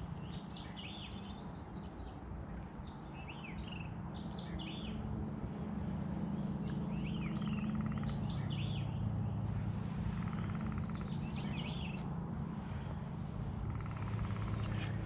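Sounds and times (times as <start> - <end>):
steady low rumble: 0.0 - 15.0
birds chirping: 2.8 - 15.0.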